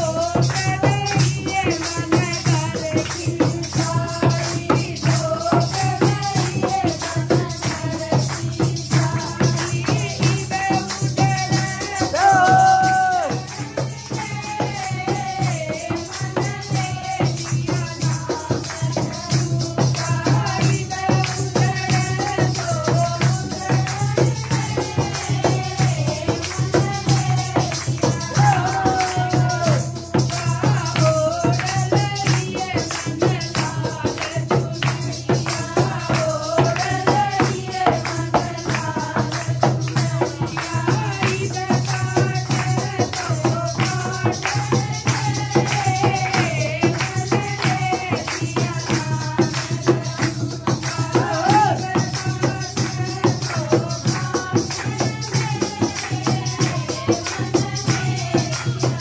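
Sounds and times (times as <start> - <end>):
jingling hand percussion: 0.0 - 59.0
women singing devotional song: 0.0 - 59.0.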